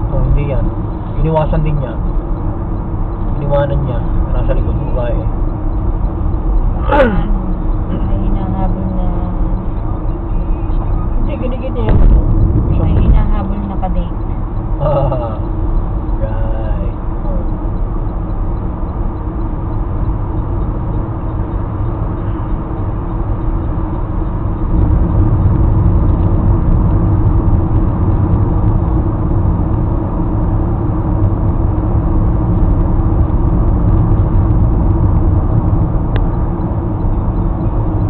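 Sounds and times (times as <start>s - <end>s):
car road and engine rumble: 0.0s - 38.0s.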